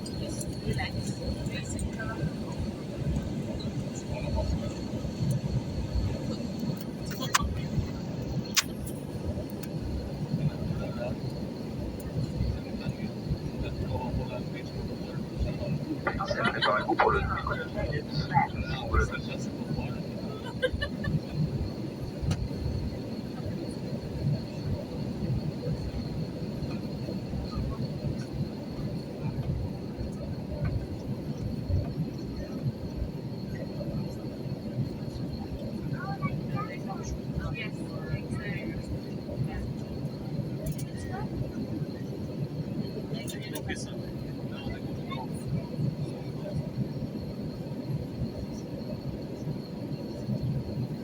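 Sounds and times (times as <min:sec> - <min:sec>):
aircraft low rumble: 0:00.0 - 0:51.0
faint high whine: 0:00.0 - 0:51.0.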